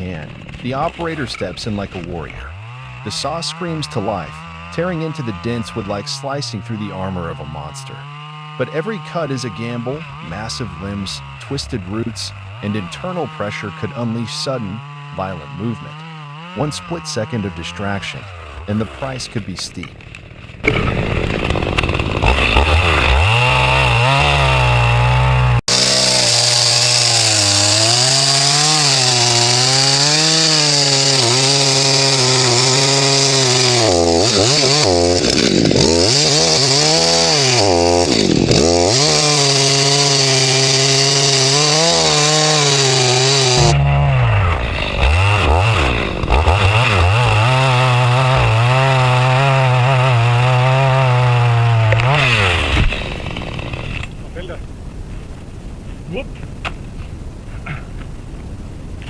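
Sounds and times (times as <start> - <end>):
chainsaw engine at full throttle: 0.0 - 54.7.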